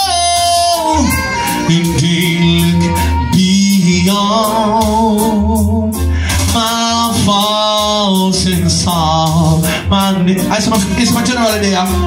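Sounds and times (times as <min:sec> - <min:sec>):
backing track with bass line: 0:00.0 - 0:12.0
man singing into a microphone: 0:00.0 - 0:12.0.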